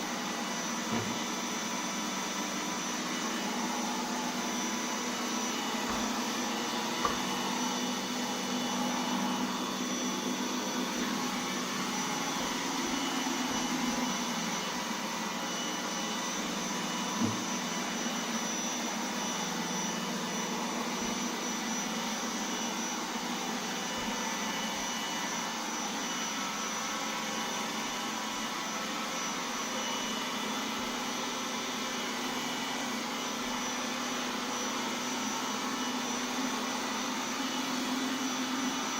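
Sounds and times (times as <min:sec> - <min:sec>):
robot vacuum running: 0:00.0 - 0:38.9.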